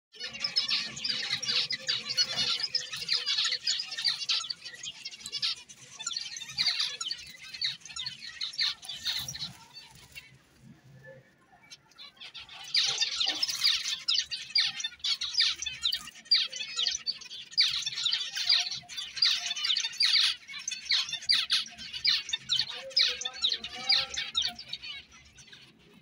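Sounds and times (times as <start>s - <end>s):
finches chattering: 0.2s - 10.3s, 11.6s - 26.0s.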